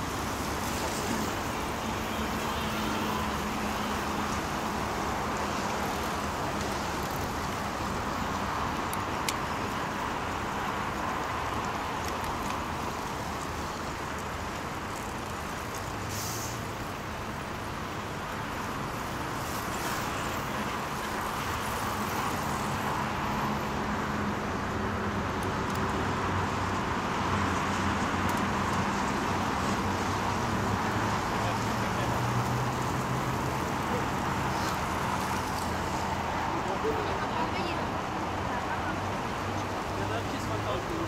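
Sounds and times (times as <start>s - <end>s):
road traffic with engine hum: 0.0s - 41.0s.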